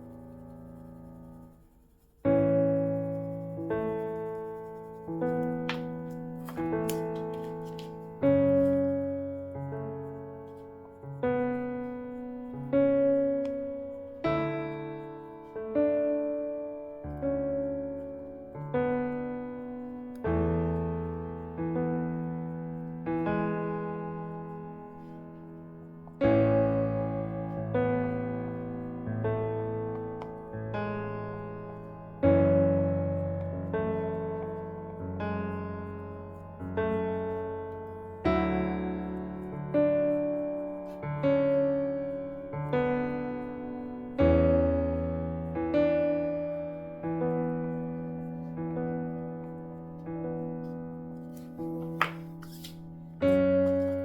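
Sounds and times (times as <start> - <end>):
slow soft piano chords: 0.0 - 54.0.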